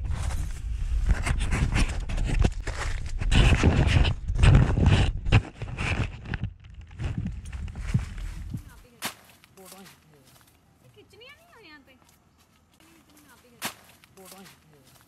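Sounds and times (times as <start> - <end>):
tent fabric rustling and crinkling: 0.0 - 15.0.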